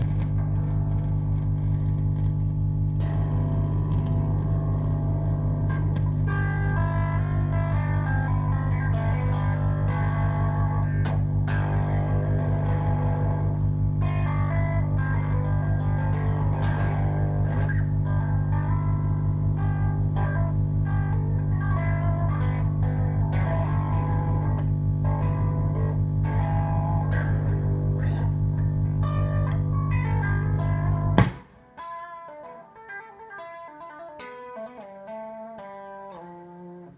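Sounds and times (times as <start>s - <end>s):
low pulsing amp drone: 0.0s - 31.6s
amp pop: 0.0s - 31.8s
electric guitar playing: 0.0s - 36.9s.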